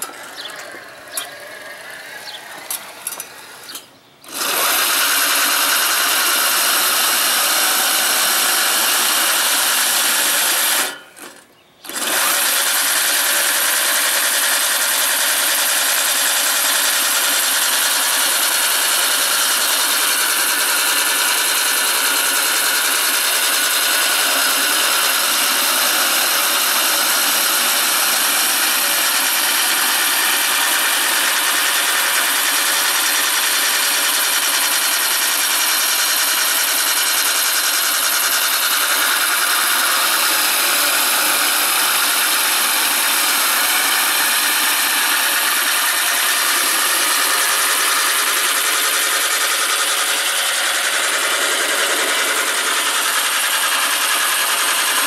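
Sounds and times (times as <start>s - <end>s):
electric reel mower whirring: 0.0s - 55.0s.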